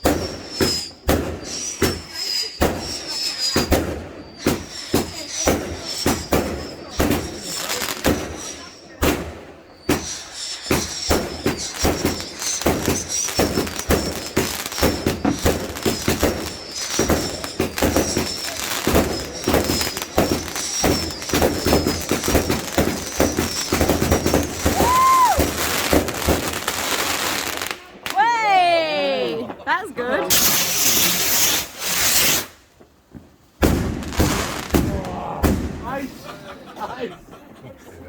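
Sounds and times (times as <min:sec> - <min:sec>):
firework whistle: 0:00.0 - 0:29.0, 0:30.3 - 0:32.6
fireworks crackling and popping: 0:00.0 - 0:36.3.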